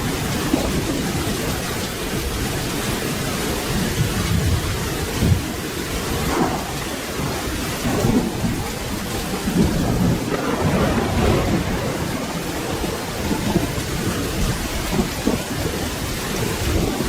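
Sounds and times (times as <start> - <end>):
rolling thunder rumble: 0.0 - 17.0
steady rain: 0.0 - 17.0.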